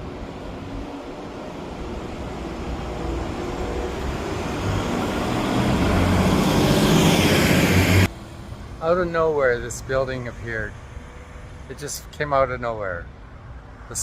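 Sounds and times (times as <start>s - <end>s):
roadside rushing noise: 0.0s - 14.0s.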